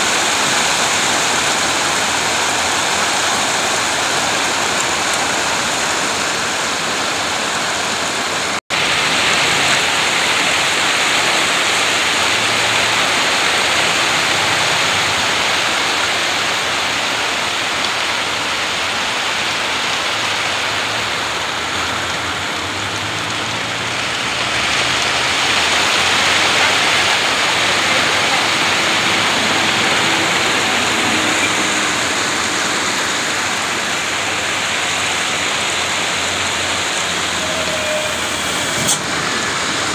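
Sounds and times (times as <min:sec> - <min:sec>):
wet concrete pouring down steel chutes: 0:00.0 - 0:39.9.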